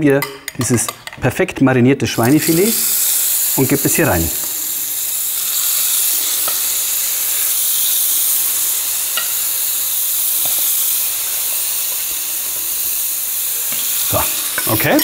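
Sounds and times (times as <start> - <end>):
meat sizzling in hot oil: 2.2 - 15.0.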